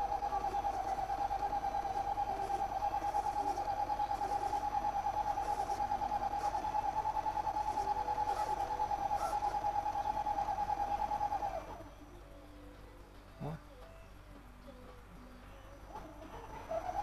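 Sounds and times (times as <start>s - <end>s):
pulsing electric hum: 0.0s - 17.0s.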